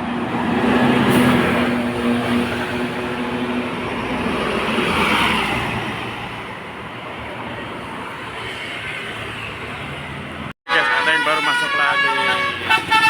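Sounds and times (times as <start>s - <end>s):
bus driving past: 0.0s - 10.5s.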